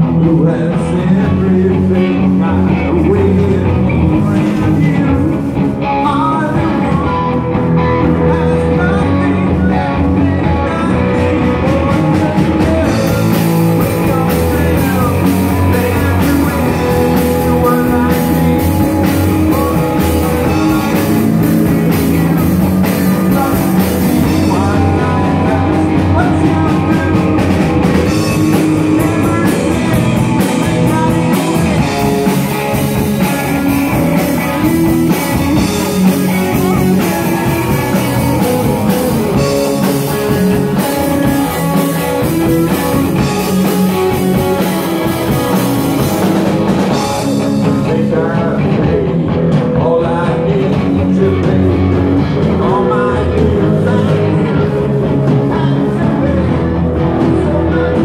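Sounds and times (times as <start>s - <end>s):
bass guitar: 0.0s - 58.0s
drum kit: 0.0s - 58.0s
electric guitar: 0.0s - 58.0s
person singing: 0.0s - 58.0s.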